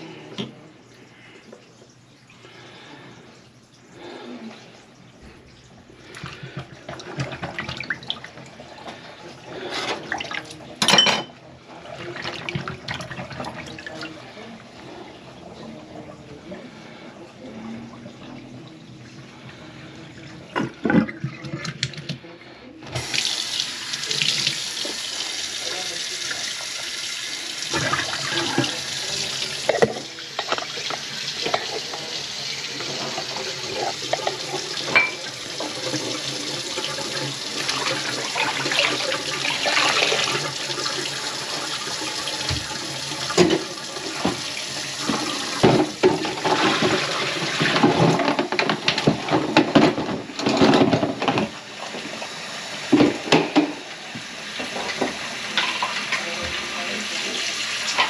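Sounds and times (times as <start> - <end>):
water running into sink: 0.1 - 16.1, 16.9 - 22.2, 22.9 - 58.0.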